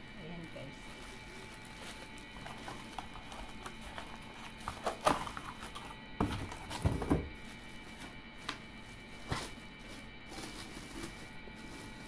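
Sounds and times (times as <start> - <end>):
plastic wrap crinkling: 0.6 - 12.0
cardboard box handled: 1.5 - 12.0.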